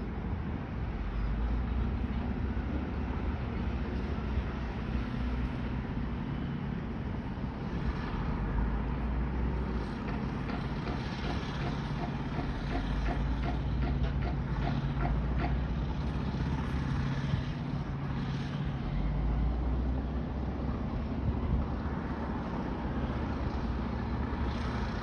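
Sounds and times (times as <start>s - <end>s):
diesel engines low rumble: 0.0s - 25.0s.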